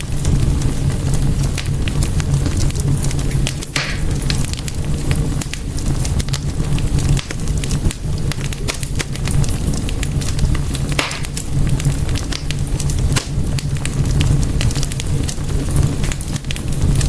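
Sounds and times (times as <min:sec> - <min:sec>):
fire flames rumbling: 0:00.0 - 0:17.0
wood fire crackling and popping: 0:00.0 - 0:17.0.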